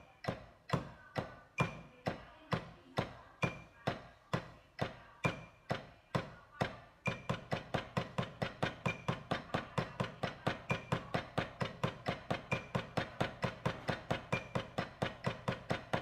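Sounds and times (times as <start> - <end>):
drumstick striking practice pad: 0.0 - 16.0.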